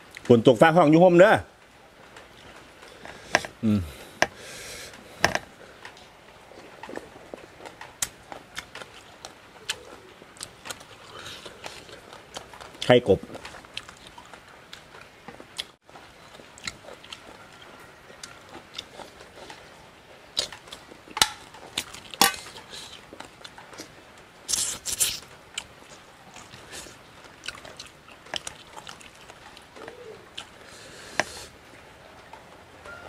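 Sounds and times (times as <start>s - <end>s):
person chewing crunchy food: 2.9s - 5.5s, 6.5s - 31.6s.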